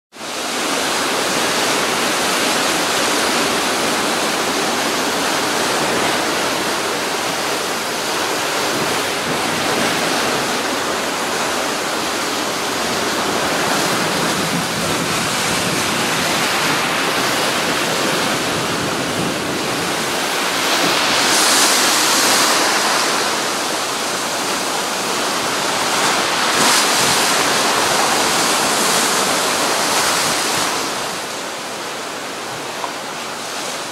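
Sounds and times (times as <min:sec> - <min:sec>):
heavy surf breaking: 0:00.2 - 0:33.9.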